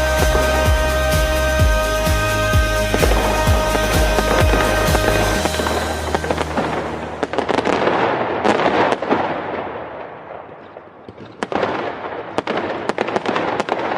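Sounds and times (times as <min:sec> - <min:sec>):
fireworks crackling: 0:00.0 - 0:13.9
fireworks sharp bangs: 0:00.0 - 0:13.9.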